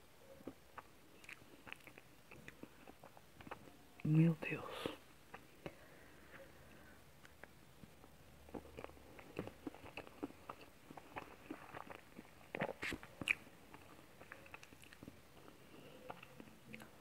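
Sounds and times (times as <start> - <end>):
wet chewing clicks and smacks: 0.2 - 4.0, 5.3 - 6.4, 7.2 - 17.0.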